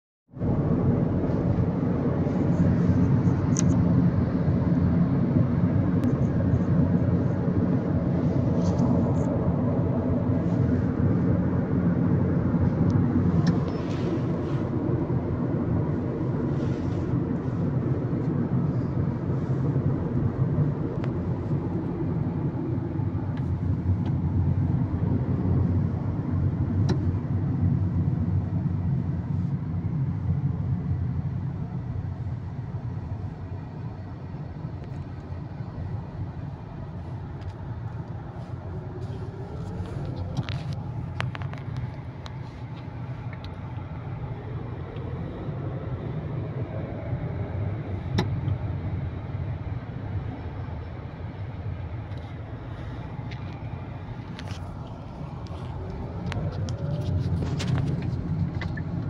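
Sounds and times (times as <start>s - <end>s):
car road and engine rumble: 0.3s - 59.0s.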